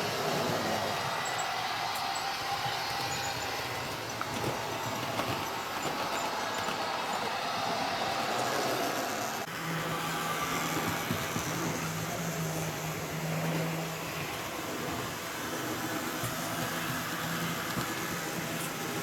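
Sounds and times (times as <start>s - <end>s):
model trains rolling on track: 0.0s - 19.0s.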